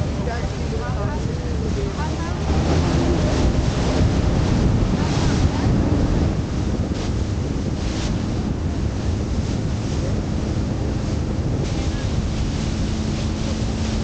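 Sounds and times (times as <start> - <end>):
boat wake rushing: 0.0 - 14.0
wind buffeting microphone: 0.0 - 14.0.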